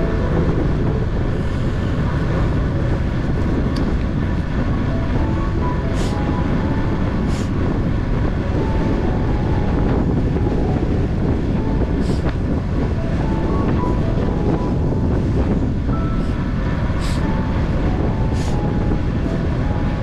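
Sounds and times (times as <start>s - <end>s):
wind rush on microphone: 0.0s - 20.0s.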